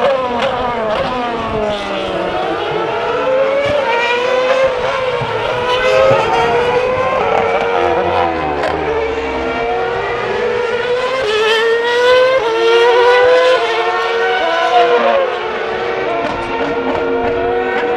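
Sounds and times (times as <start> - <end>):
racing car engines accelerating: 0.0 - 17.9.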